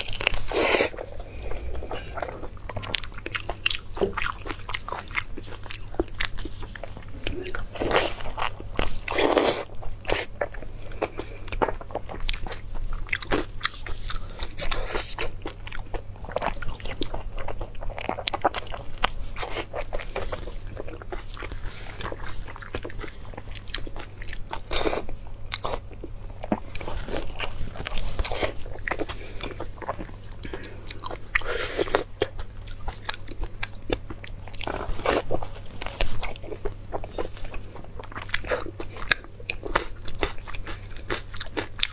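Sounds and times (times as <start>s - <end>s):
biting and chewing mouth sounds: 0.0s - 41.9s
steady low hum: 0.0s - 41.9s.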